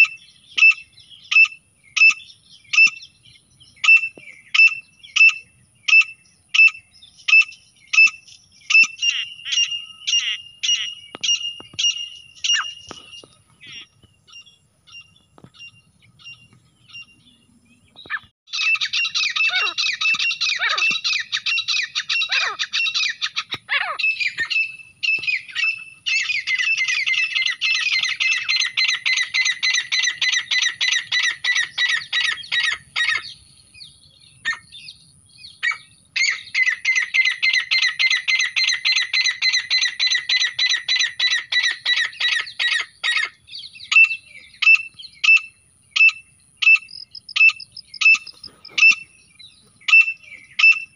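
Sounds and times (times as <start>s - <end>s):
francolin calls: 0.0s - 50.9s.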